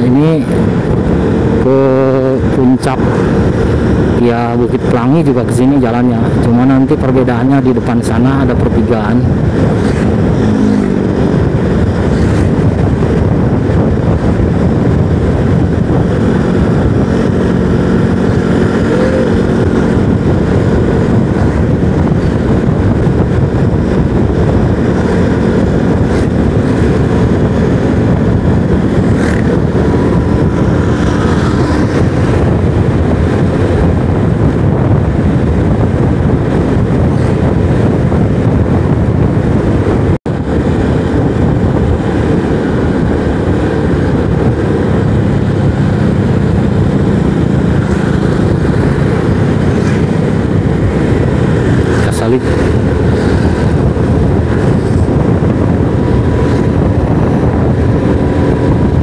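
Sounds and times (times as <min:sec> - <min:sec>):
motorcycle engine hum: 0:00.0 - 0:59.0
road noise: 0:00.0 - 0:59.0
wind rush on microphone: 0:00.0 - 0:59.0.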